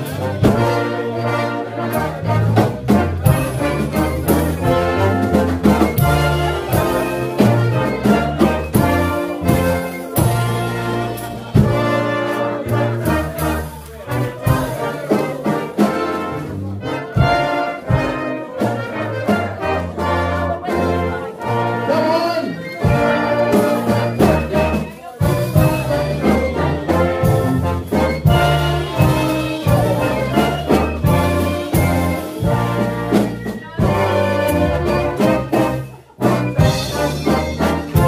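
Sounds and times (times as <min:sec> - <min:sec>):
big band jazz: 0:00.0 - 0:38.0
trumpets and trombones: 0:00.0 - 0:38.0.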